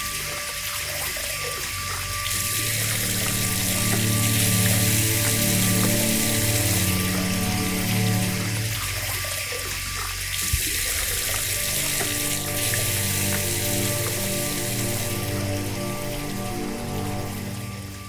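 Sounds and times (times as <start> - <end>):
droning film score: 0.0 - 18.0
water hissing: 1.4 - 18.0.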